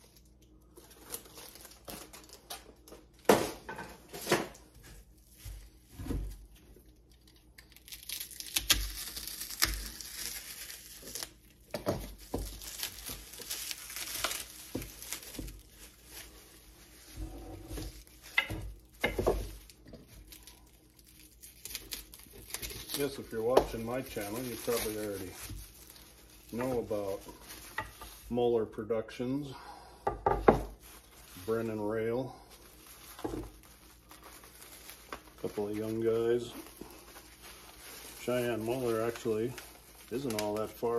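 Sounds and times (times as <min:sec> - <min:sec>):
plastic wrapping crinkling and tearing: 0:00.0 - 0:28.7, 0:30.5 - 0:40.9.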